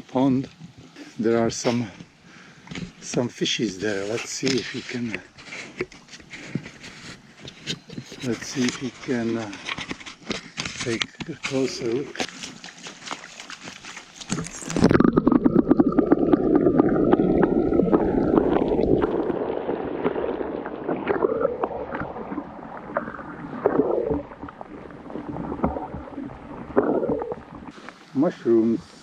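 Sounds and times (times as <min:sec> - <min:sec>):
water sloshing and gurgling: 0:00.0 - 0:29.0.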